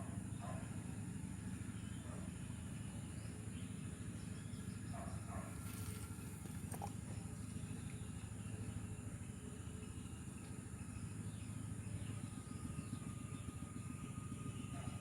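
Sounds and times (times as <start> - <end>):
insect drone: 0.0 - 14.9
low steady hum: 0.0 - 15.0.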